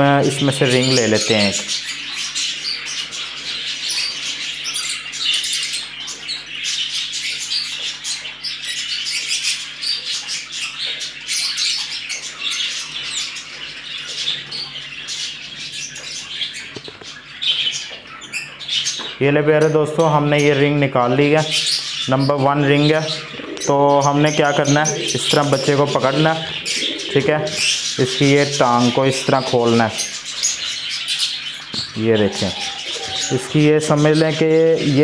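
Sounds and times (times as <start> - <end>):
parrots chattering and chirping: 0.0 - 35.0.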